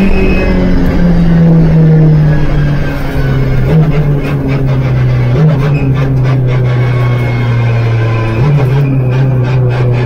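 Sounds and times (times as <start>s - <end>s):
race car engine droning: 0.0s - 10.0s.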